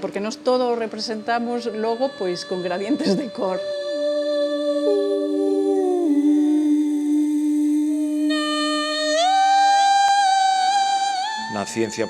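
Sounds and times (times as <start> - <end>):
woman humming held notes: 1.2 - 12.0.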